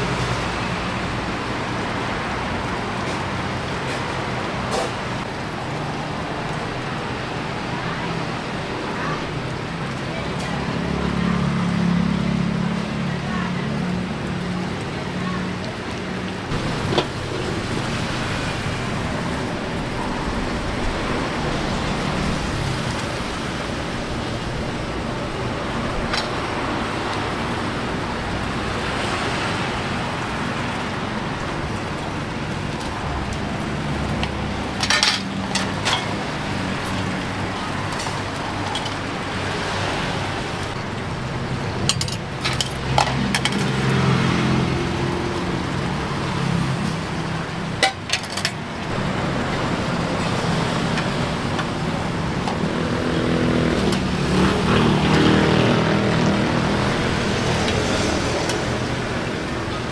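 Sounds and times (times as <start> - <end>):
vehicle engines idling and passing: 0.0 - 59.9.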